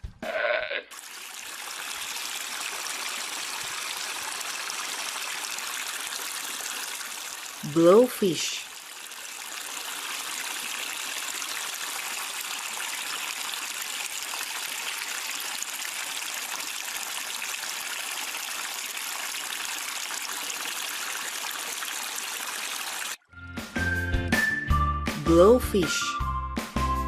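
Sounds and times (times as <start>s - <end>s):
water trickling: 0.9s - 23.2s.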